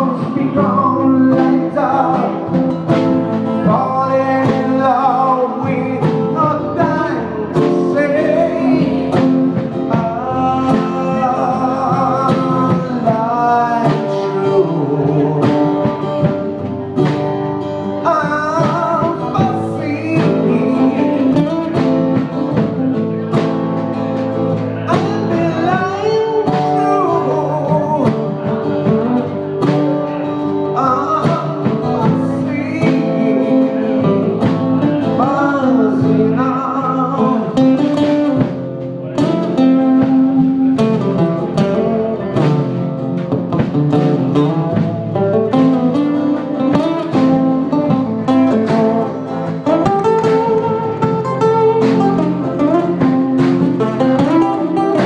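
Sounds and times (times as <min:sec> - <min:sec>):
man singing into a microphone: 0:00.0 - 0:23.3, 0:24.3 - 0:55.0
drum kit beat: 0:00.0 - 0:55.0
strummed acoustic guitars: 0:00.0 - 0:55.0.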